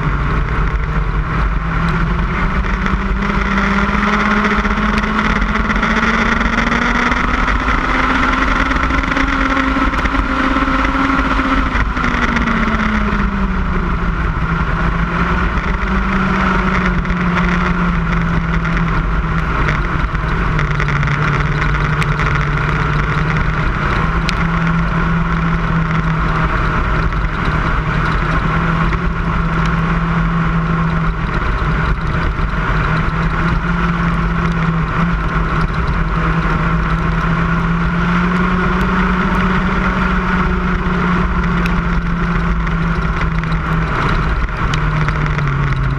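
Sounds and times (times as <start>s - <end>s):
race car engine at high revs: 0.0s - 45.9s.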